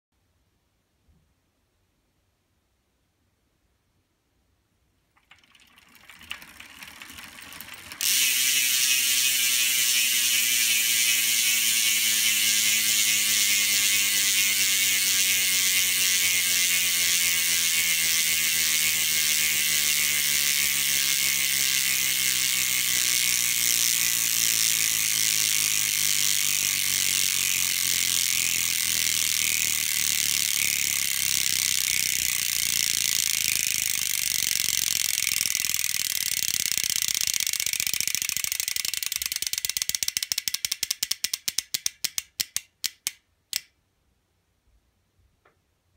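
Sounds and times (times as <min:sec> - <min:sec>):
faint ratchet clicking: 0:05.2 - 0:43.8
bicycle hub ratchet buzzing: 0:05.3 - 0:43.7.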